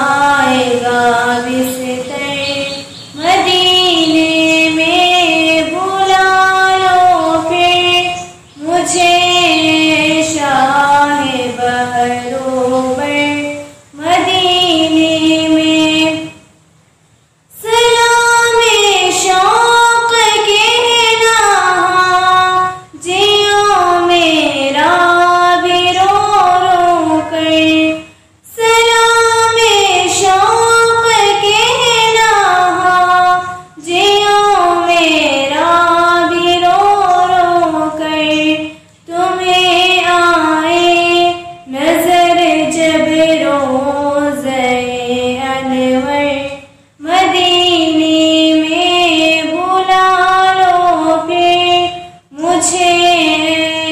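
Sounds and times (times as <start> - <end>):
girl singing unaccompanied: 0.0 - 16.7, 17.5 - 53.9.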